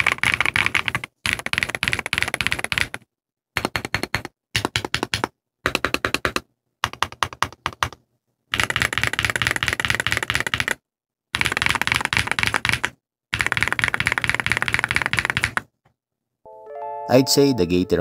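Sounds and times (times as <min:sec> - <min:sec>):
fast mechanical keyboard typing: 0:00.0 - 0:03.0, 0:03.6 - 0:10.8, 0:11.4 - 0:15.7.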